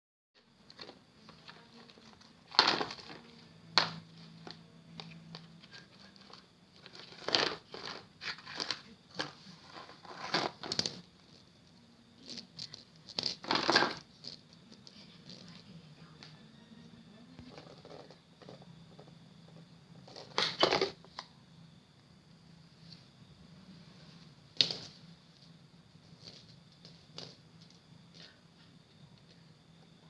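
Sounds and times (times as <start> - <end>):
faint steady hum: 0.4 - 30.0.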